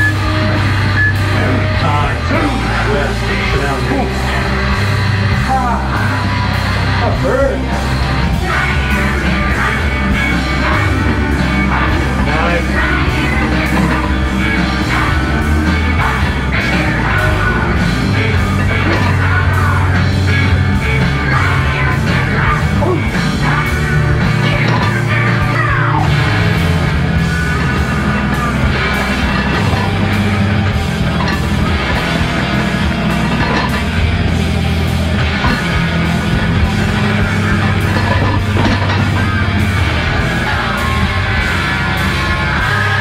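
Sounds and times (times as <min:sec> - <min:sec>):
heavy rock music: 0:00.0 - 0:43.0
steady drum beat: 0:00.0 - 0:43.0.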